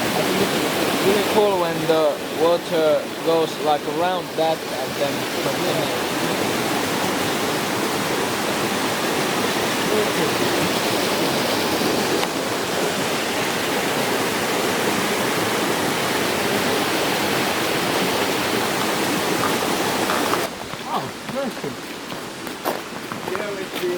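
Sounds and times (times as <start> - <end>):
river water rushing: 0.0 - 23.9.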